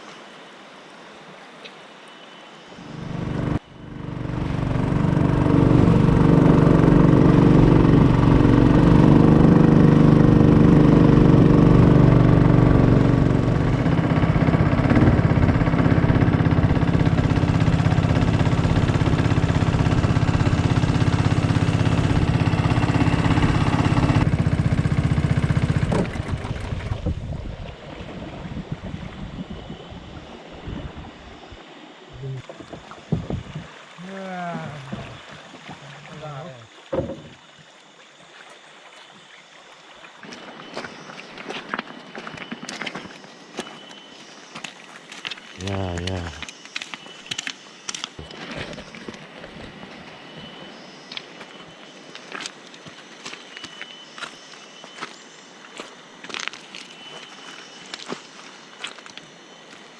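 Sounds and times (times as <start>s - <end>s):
small boat motor running: 2.8s - 55.2s.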